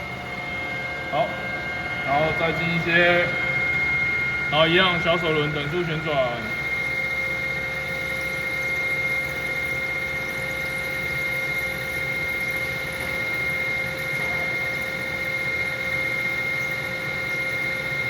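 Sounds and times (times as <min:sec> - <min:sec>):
metal lathe humming and whining: 0:00.0 - 0:18.0.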